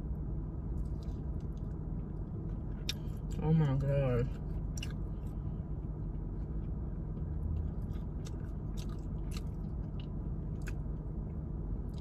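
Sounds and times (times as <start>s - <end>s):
low hum inside car: 0.0s - 12.0s.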